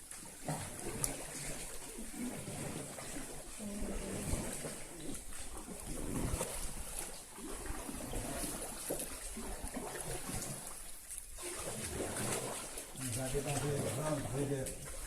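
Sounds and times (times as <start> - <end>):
water trickling and running: 0.0 - 15.0.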